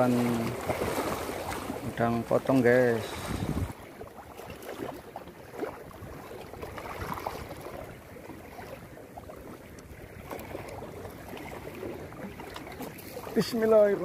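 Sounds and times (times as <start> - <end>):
waves lapping against rocks: 0.0 - 14.0.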